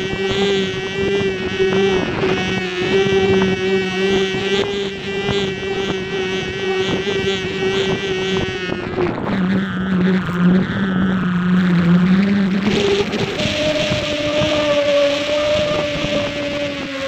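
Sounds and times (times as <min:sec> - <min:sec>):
steady droning hum: 0:00.0 - 0:17.0
wind buffeting microphone: 0:00.0 - 0:17.0.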